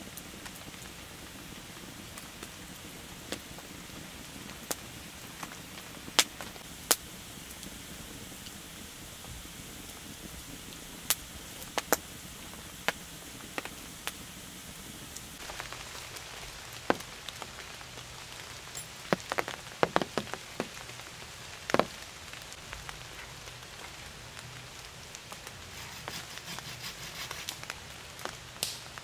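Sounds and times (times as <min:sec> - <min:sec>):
rain hissing: 0:00.0 - 0:29.0
raindrops tapping: 0:02.1 - 0:25.6.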